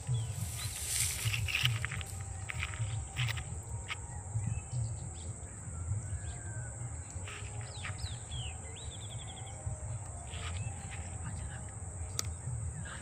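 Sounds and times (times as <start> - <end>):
bird chirps and trill: 0.0 - 13.0
high insect drone: 0.0 - 13.0
wind rumble on microphone: 0.0 - 13.0.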